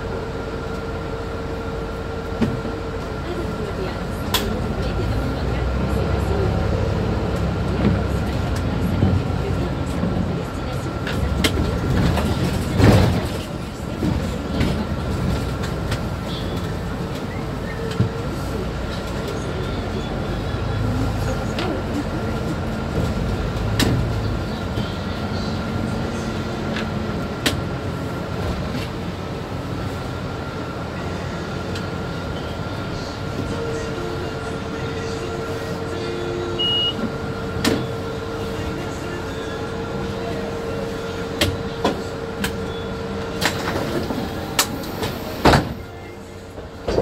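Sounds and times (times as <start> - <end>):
bus engine drone: 0.0 - 47.0.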